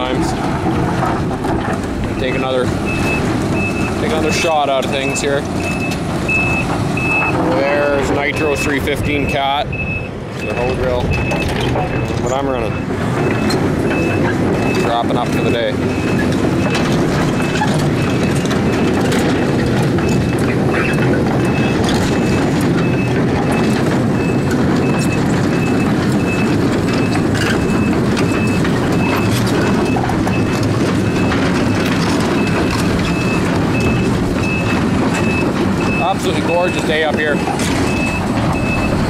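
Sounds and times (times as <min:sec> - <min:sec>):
diesel machinery running: 0:00.0 - 0:39.0
warning alarm beeping: 0:02.1 - 0:39.0.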